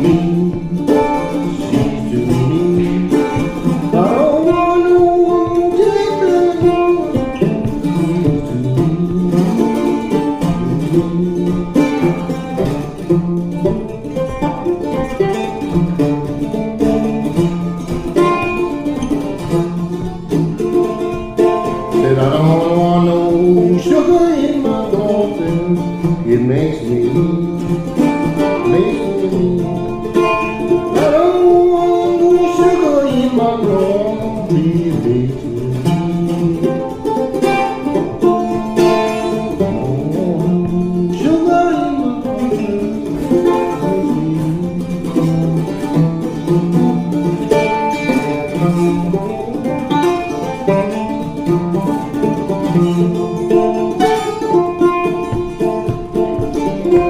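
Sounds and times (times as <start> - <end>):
mandola picking blues: 0.0 - 57.0.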